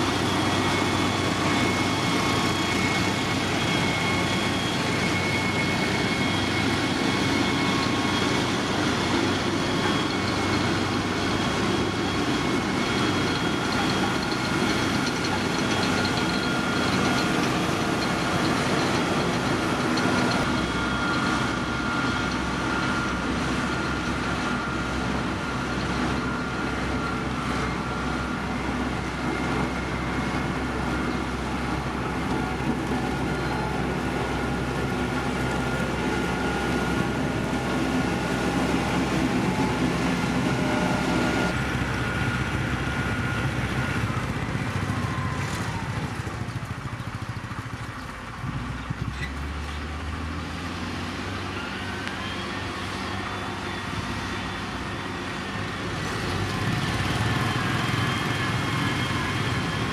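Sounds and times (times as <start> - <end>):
diesel engine running with whine: 0.0 - 59.9.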